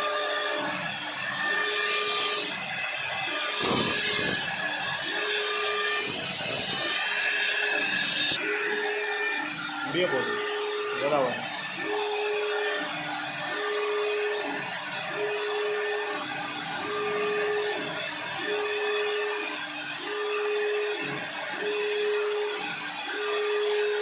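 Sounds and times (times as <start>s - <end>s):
wood router hiss and motor whine: 0.0s - 24.0s.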